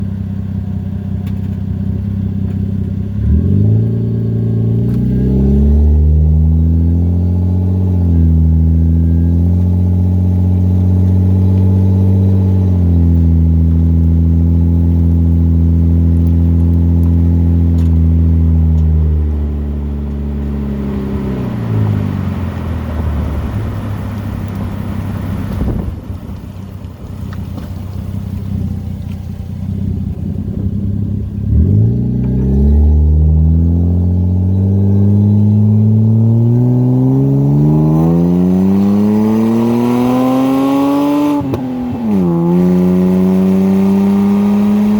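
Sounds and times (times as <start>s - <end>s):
car exhaust engine note: 0.0s - 44.9s.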